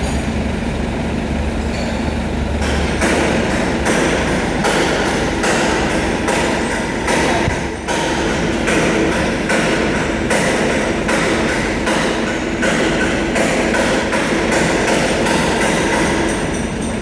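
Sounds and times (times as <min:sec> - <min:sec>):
workshop clatter: 0:00.0 - 0:17.0
hammer striking metal: 0:02.6 - 0:17.0.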